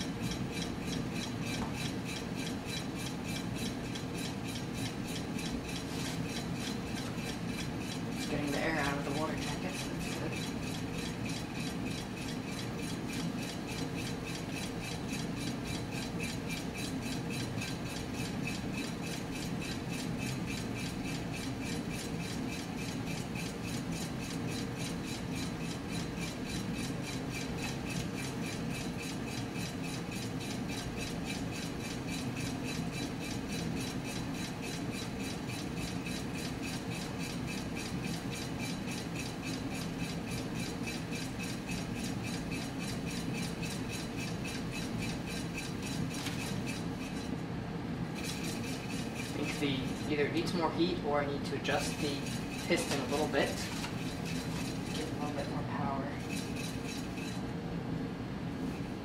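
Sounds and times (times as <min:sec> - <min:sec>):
small engine running with rubbing swish: 0:00.0 - 0:47.4, 0:48.1 - 0:57.5.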